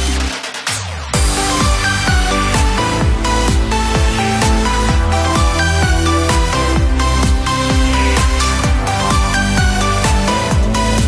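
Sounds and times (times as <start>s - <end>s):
kick drum beat: 1.2s - 11.0s
synth melody: 1.2s - 11.0s.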